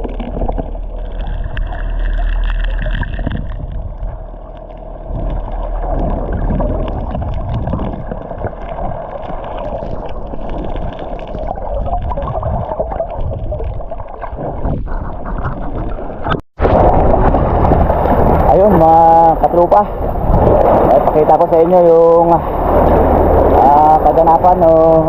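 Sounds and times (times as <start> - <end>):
low rumble: 0.0 - 25.0
sea water rushing and gurgling: 0.0 - 25.0.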